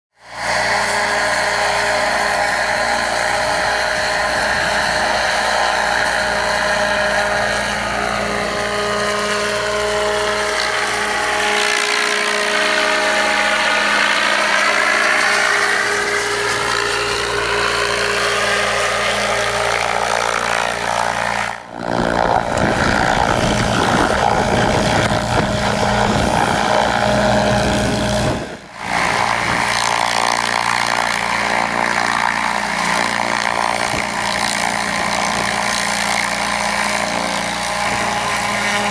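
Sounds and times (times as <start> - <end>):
helicopter rotor and turbine drone: 0.2 - 38.9.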